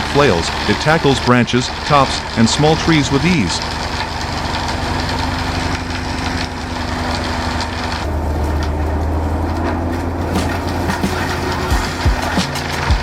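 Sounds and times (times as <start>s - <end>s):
mulcher engine running: 0.0s - 13.0s
wood splintering and crackling: 0.0s - 13.0s.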